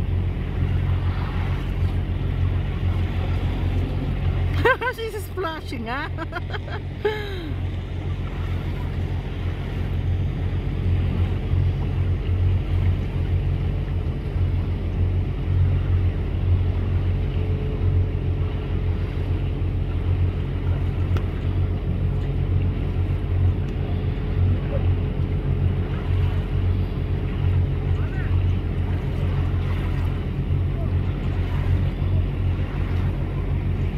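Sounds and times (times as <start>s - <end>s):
motorboat engine drone: 0.0s - 33.9s
water noise: 0.0s - 33.9s
wind: 0.0s - 33.9s.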